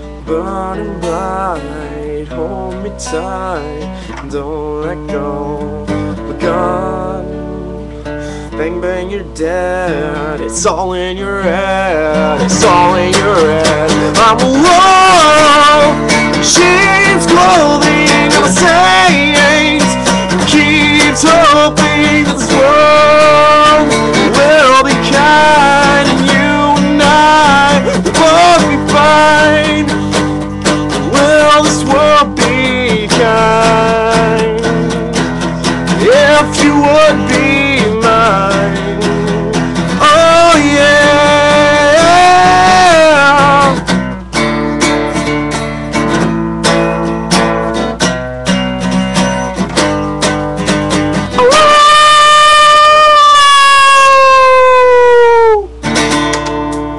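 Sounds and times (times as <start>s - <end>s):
man singing: 0.0s - 44.0s, 51.2s - 55.7s
acoustic guitar strumming: 0.0s - 56.9s.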